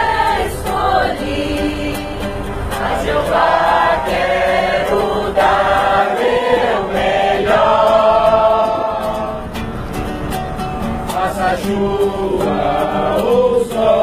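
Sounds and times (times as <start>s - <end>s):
group singing a hymn in unison: 0.0s - 9.9s, 10.8s - 14.0s
strummed acoustic guitar: 0.0s - 14.0s.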